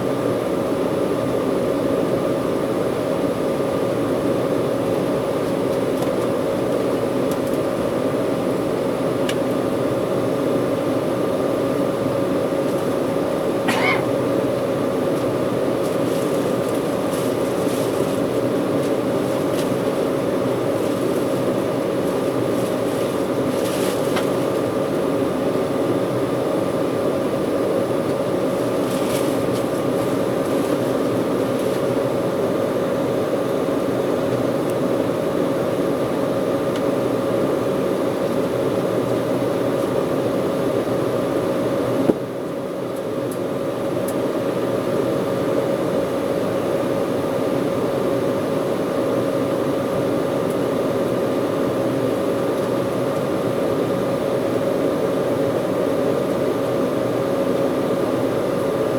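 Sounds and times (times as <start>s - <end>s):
airliner cabin drone: 0.0s - 58.9s.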